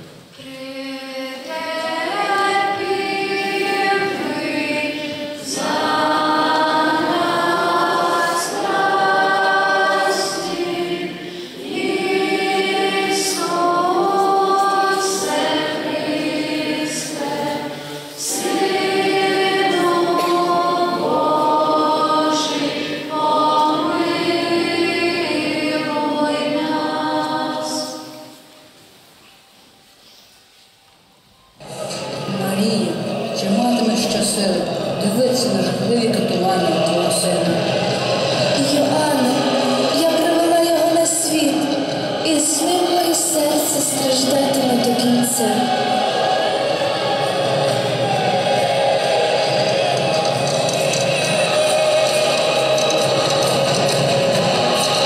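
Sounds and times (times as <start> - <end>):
choir singing unaccompanied: 0.0 - 28.8, 31.6 - 55.0.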